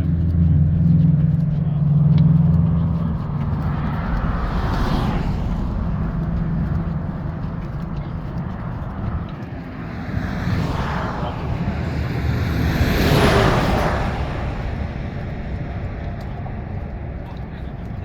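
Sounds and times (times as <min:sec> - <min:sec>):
distant traffic: 0:00.0 - 0:18.0
vehicle passing by: 0:00.0 - 0:18.0
wind: 0:00.0 - 0:18.0.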